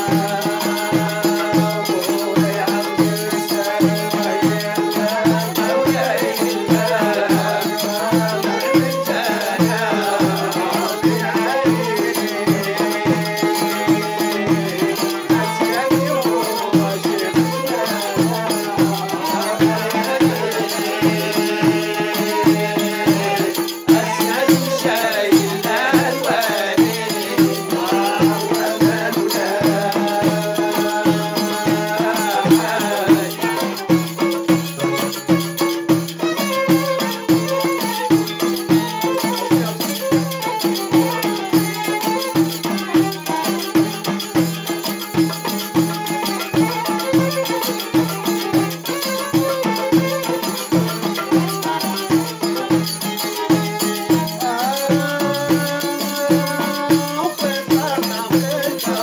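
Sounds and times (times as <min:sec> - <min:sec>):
folk music with percussive beat: 0:00.0 - 0:59.0.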